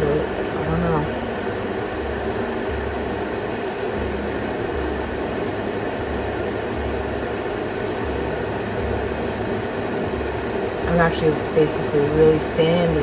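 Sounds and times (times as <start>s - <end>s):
electric kettle heating water: 0.0s - 13.0s.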